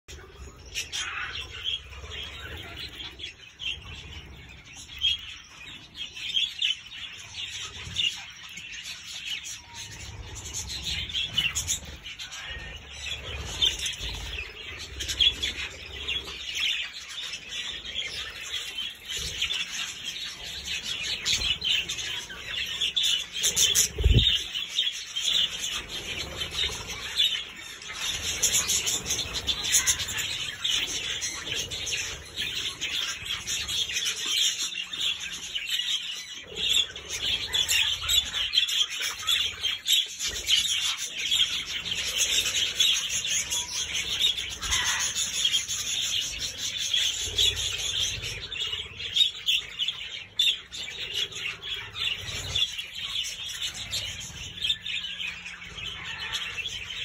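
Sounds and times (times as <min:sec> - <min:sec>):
budgerigars chattering and chirping: 0:00.1 - 0:57.0.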